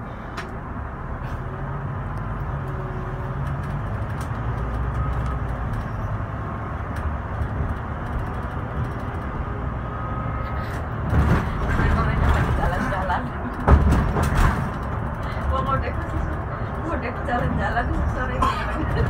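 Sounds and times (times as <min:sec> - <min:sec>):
bus engine droning: 0:00.0 - 0:19.0.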